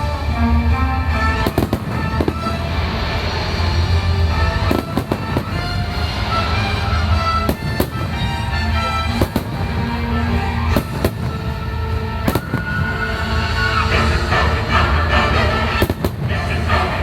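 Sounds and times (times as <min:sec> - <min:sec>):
fireworks bangs: 0:01.1 - 0:17.0.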